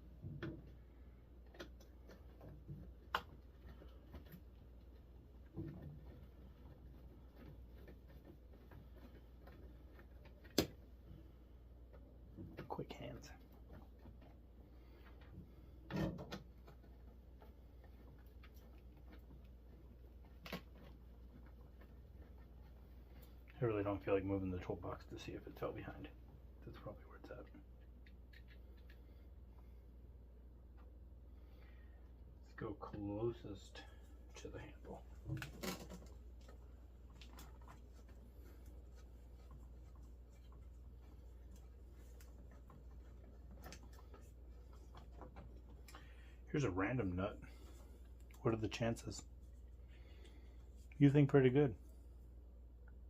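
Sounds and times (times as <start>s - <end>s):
faint clicks and scraping: 0.0s - 53.0s
low steady hum: 0.0s - 53.0s.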